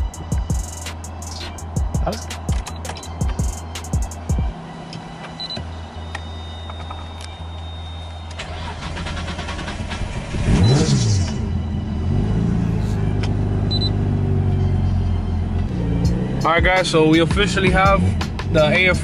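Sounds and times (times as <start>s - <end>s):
car engine starting and idling: 0.0s - 19.0s.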